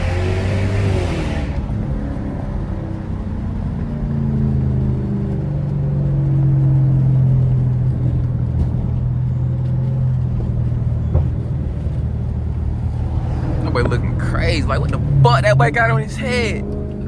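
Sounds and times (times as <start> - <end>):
car engine droning while driving: 0.0 - 17.0.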